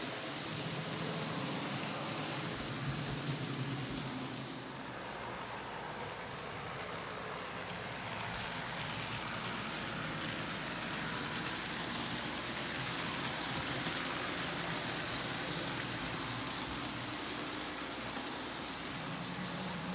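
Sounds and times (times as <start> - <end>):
model train whirring on track: 0.0 - 19.9.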